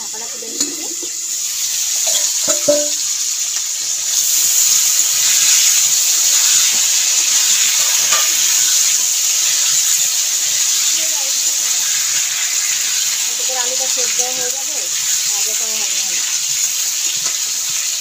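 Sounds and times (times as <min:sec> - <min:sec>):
potatoes sizzling in hot oil: 0:00.0 - 0:18.0.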